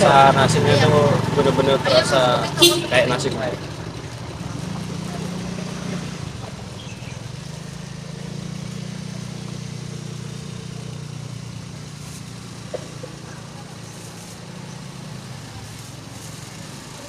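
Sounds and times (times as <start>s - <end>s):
motorcycle engine running: 0.0s - 17.0s
street traffic: 0.0s - 17.0s.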